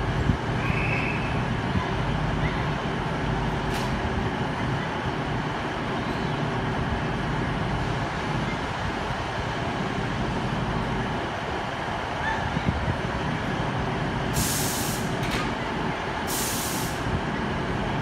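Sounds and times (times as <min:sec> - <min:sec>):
diesel train engines rumbling: 0:00.0 - 0:18.0.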